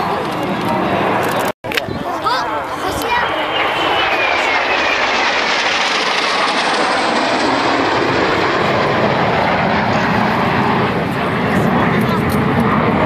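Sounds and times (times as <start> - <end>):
jets roaring past: 2.1 - 13.0.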